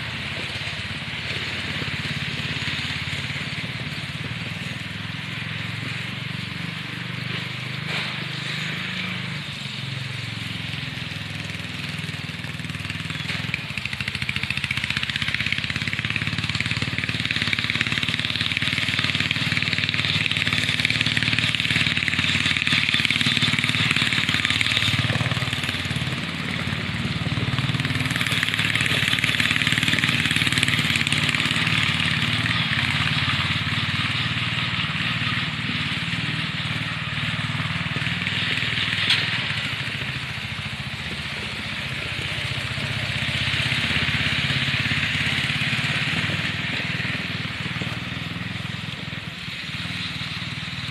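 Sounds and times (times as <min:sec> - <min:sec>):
riding mower engine running: 0:00.0 - 0:50.9.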